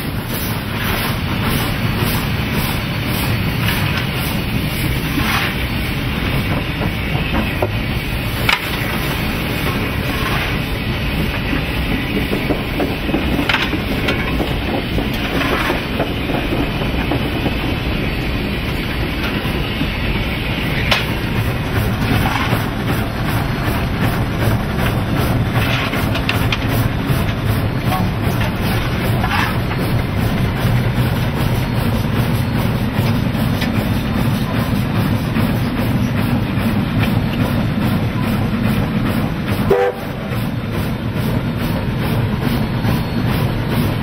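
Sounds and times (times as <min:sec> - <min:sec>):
locomotive rumble and clatter: 0:00.0 - 0:44.0
steam hiss: 0:00.0 - 0:44.0.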